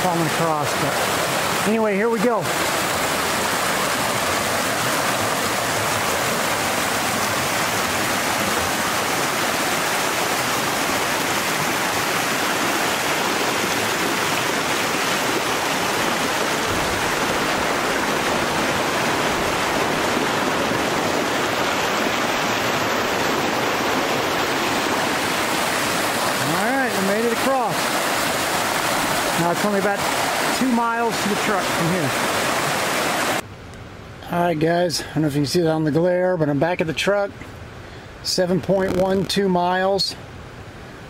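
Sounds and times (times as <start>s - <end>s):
creek rushing over rocks: 0.0s - 33.4s.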